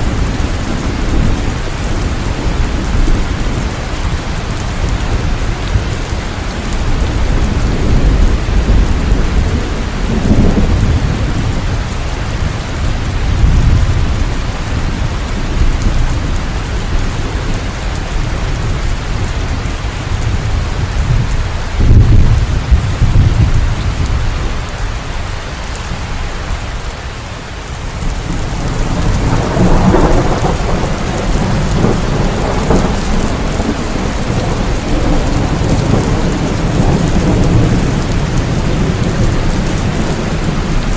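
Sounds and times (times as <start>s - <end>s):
low rolling thunder: 0.0s - 24.8s, 27.9s - 40.9s
steady rain: 0.0s - 40.9s.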